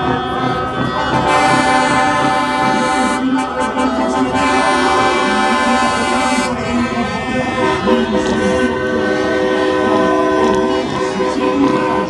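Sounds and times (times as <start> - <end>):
truck air horns: 0.3 - 12.0.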